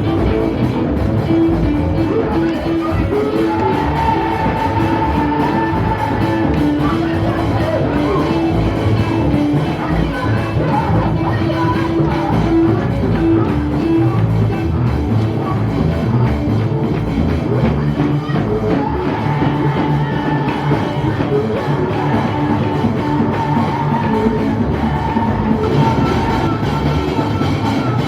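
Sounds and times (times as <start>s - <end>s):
person singing: 0.0s - 16.3s, 17.2s - 28.0s
drum kit: 0.0s - 28.0s
loud band music: 0.0s - 28.0s.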